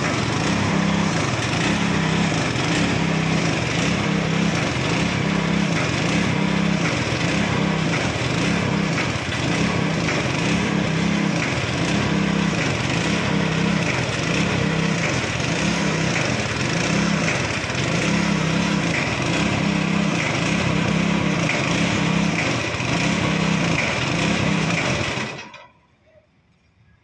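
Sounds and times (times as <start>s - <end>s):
small engine running under load: 0.0s - 26.1s.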